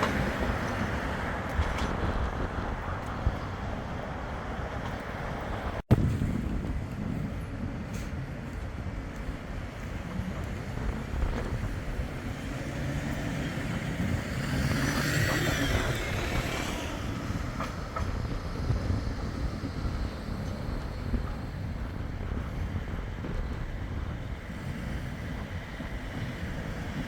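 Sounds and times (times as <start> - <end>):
tram rumbling past: 0.0 - 27.0.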